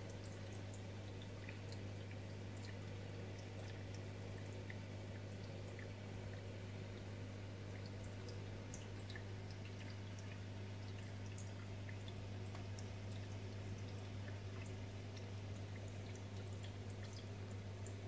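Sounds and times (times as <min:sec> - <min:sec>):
aquarium pump hum: 0:00.0 - 0:18.0
water trickling and dripping: 0:00.0 - 0:18.0.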